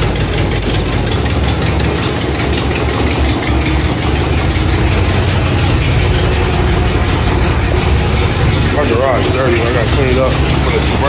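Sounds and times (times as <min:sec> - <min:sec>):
car engine idling with low rumble: 0:00.0 - 0:11.0.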